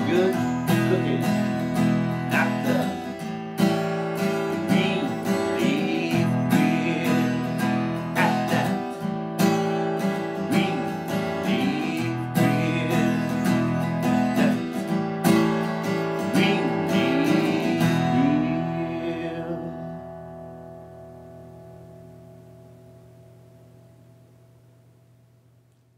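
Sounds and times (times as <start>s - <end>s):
acoustic guitar strumming: 0.0s - 24.6s.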